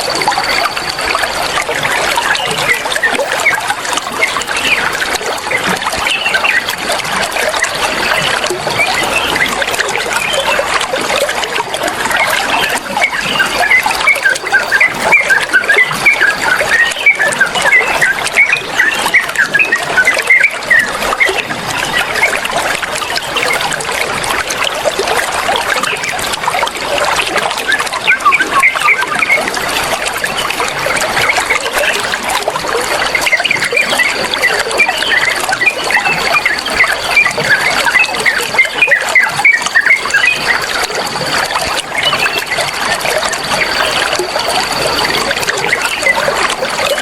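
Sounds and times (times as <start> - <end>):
water trickling: 0.0 - 47.0.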